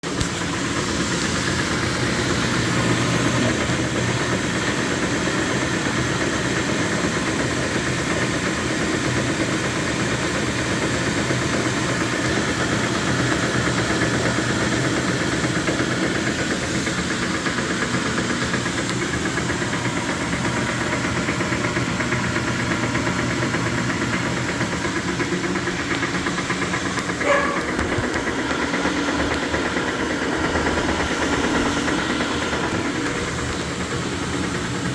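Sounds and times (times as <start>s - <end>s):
washing machine clunking and knocking: 0.0s - 34.9s.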